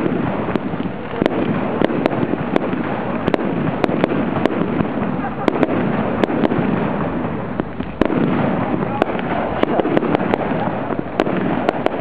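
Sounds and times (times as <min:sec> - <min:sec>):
continuous noisy din: 0:00.0 - 0:12.0
fireworks bangs and pops: 0:00.0 - 0:12.0.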